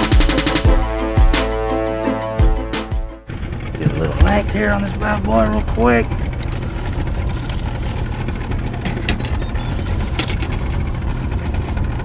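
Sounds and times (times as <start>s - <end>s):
boat motor idling: 2.3s - 12.0s.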